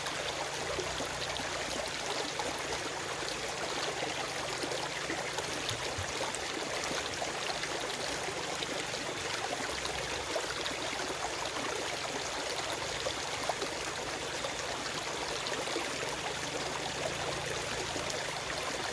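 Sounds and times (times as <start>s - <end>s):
stream running over stones: 0.0s - 18.9s.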